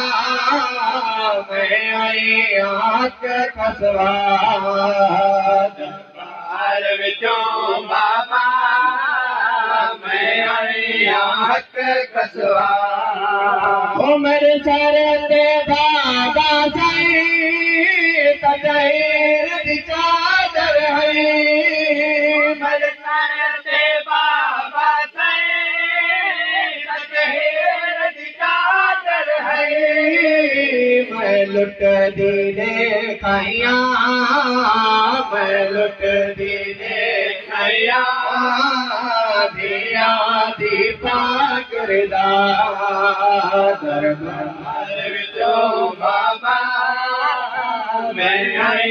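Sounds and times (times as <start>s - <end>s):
men chanting a lament: 0.0s - 48.9s.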